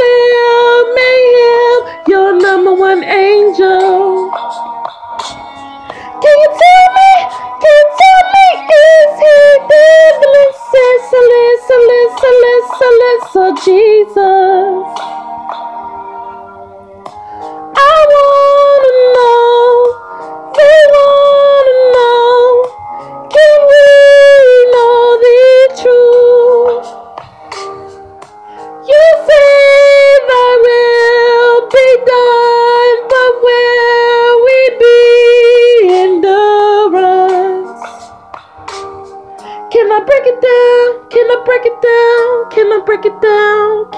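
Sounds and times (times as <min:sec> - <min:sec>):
high voice singing with vibrato: 0:00.0 - 0:04.6, 0:05.3 - 0:15.0, 0:17.7 - 0:27.0, 0:28.8 - 0:37.9, 0:39.7 - 0:43.9
quiet musical accompaniment: 0:00.0 - 0:43.9.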